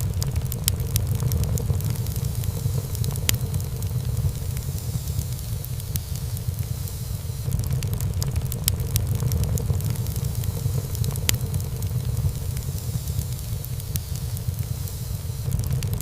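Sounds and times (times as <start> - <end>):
fire crackling and popping: 0.0 - 16.0
low rumble of flame: 0.0 - 16.0.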